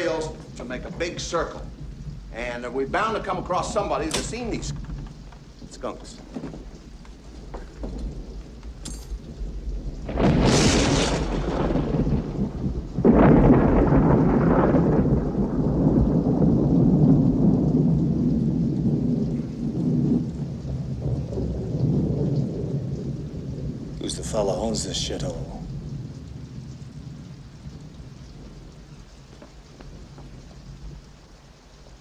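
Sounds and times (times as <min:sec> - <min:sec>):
heavy rain: 0:00.0 - 0:32.0
low thunder rumbling: 0:00.0 - 0:32.0
thunderclap: 0:00.0 - 0:32.0.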